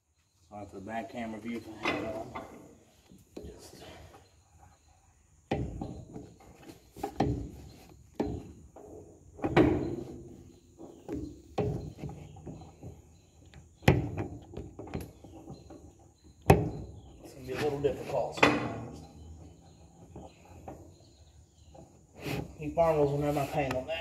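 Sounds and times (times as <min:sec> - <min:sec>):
metal clunks and scrapes: 0:01.4 - 0:04.9, 0:05.5 - 0:23.8.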